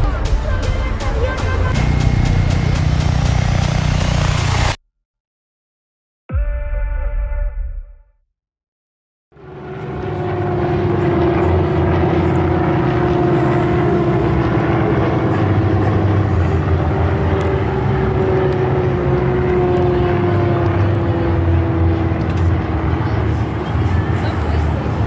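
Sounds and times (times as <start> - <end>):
propeller aircraft engine running: 0.0 - 4.8, 9.4 - 25.0.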